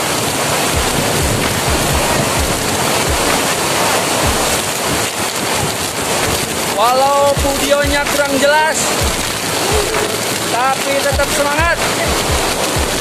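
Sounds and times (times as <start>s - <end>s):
waterfall rushing: 0.0s - 13.0s
wind buffeting microphone: 0.1s - 13.0s.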